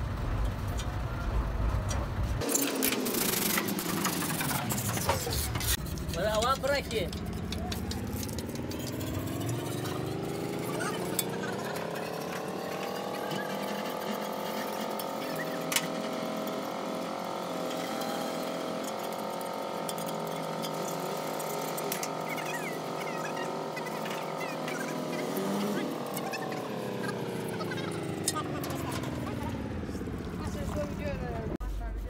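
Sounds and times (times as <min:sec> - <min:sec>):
motor whine: 0:02.4 - 0:31.6.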